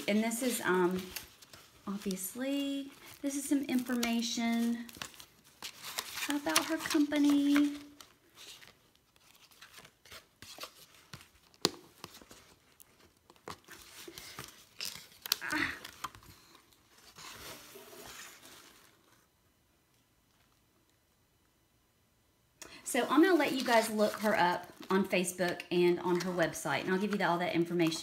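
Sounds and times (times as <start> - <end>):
paper cards rustling in a box: 0.0 - 18.9, 23.1 - 28.0.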